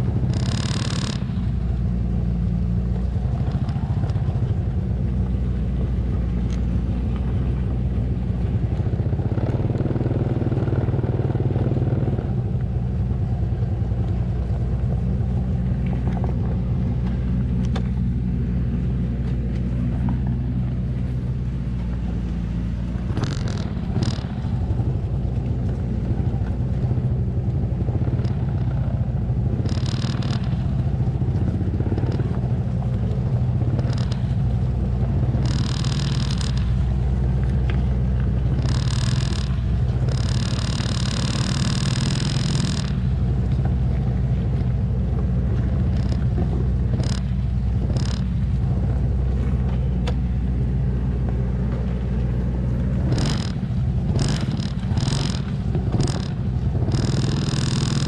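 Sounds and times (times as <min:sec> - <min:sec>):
truck engine labouring: 0:00.0 - 0:58.0.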